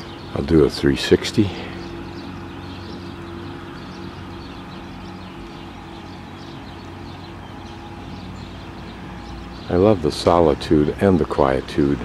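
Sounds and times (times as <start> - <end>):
engine idling: 0.0 - 12.0
small birds chirping: 0.0 - 12.0.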